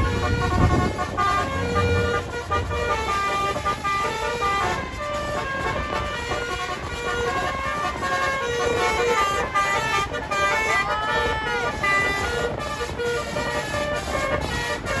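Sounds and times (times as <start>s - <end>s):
multi-tone bus horn melody: 0.0s - 15.0s.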